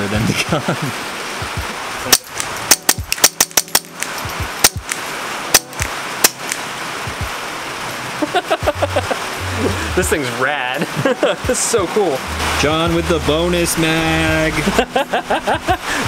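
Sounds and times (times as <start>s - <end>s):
rain on a roof: 0.0s - 16.0s.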